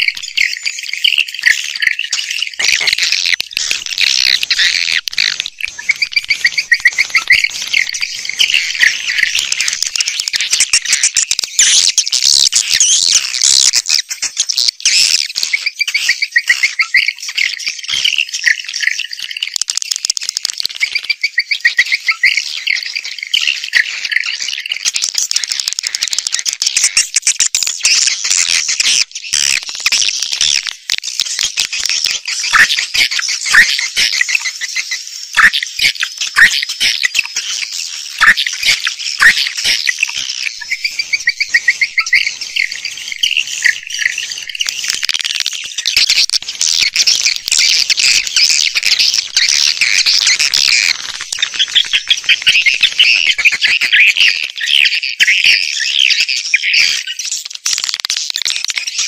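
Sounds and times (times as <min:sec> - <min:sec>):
swiftlets chirping and twittering: 0:00.0 - 0:59.0.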